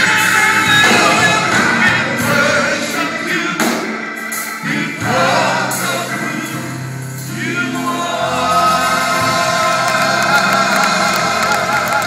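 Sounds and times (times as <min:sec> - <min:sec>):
gospel choir singing: 0:00.0 - 0:12.0
musical accompaniment: 0:00.0 - 0:12.0.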